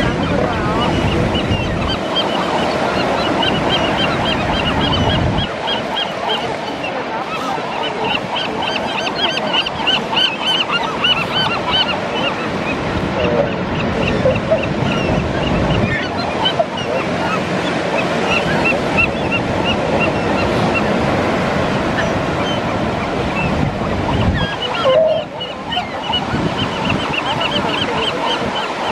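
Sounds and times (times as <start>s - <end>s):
gulls calling: 0.0s - 28.9s
surf: 0.0s - 28.9s
wind: 0.0s - 28.9s.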